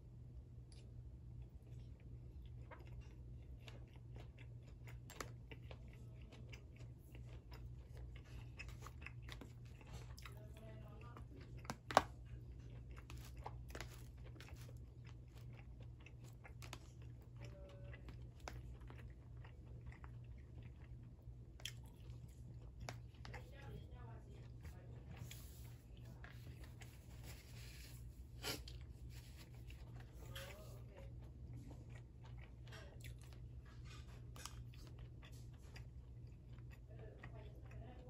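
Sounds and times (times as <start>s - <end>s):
steady low hum: 0.0s - 38.0s
person chewing food: 0.5s - 38.0s.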